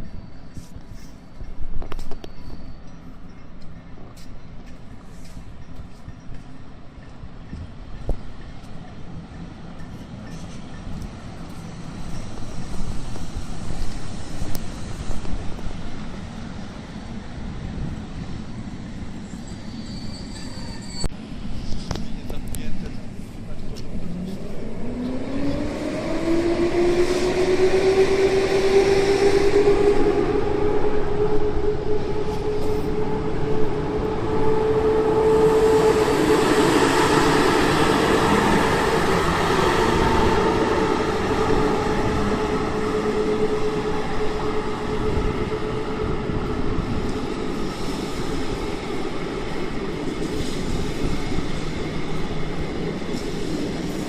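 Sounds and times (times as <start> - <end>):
electric locomotive whine: 0.0 - 54.0
rumbling train noise: 0.0 - 54.0.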